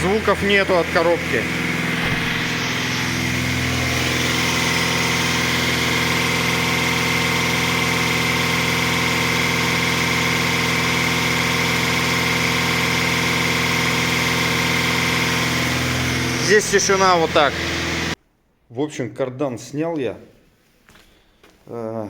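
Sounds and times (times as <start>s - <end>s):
engine and driveline hum: 0.0s - 18.2s.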